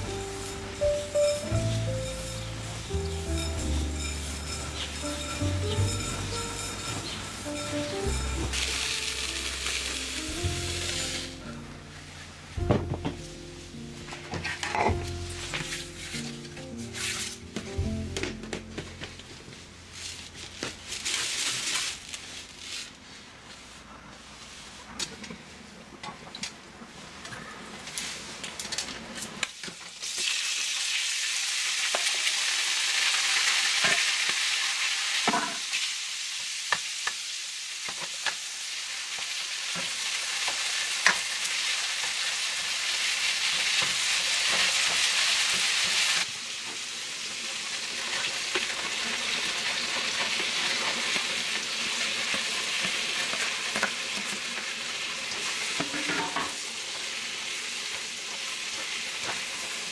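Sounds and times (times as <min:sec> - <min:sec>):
food sizzling in hot oil: 0:00.0 - 0:22.3, 0:29.5 - 0:59.9.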